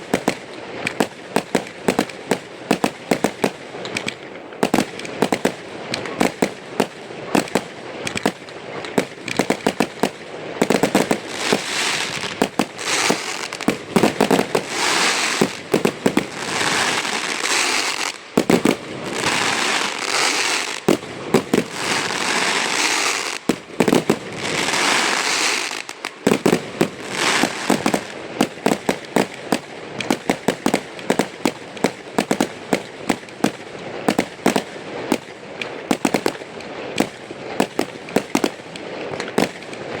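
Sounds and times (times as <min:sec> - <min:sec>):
firework bangs: 0:00.0 - 0:40.0
firework crackling: 0:00.0 - 0:40.0.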